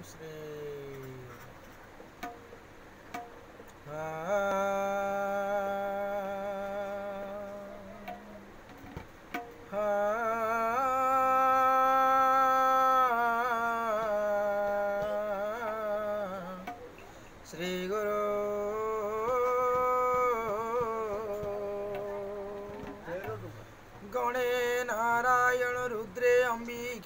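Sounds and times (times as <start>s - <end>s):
man vocalising devotional song: 0.0s - 1.7s, 3.7s - 27.0s.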